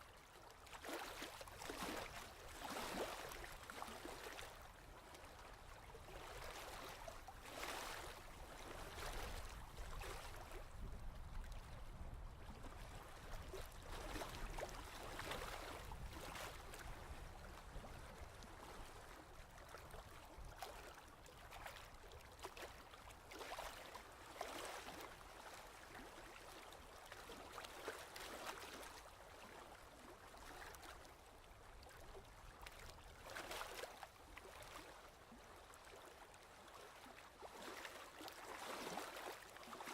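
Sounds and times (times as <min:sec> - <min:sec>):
faint ocean waves: 0:00.3 - 0:39.9.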